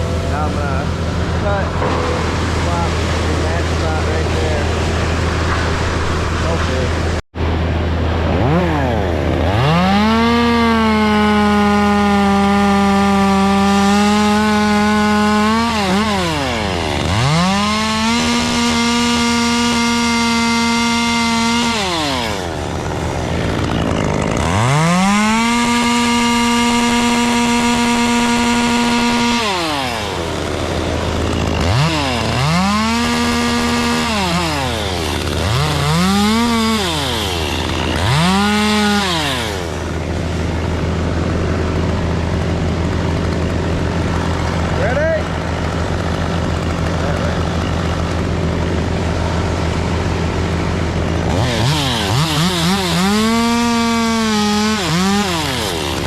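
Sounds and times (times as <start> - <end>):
chainsaw revving and cutting wood: 0.0 - 5.9, 8.3 - 56.0.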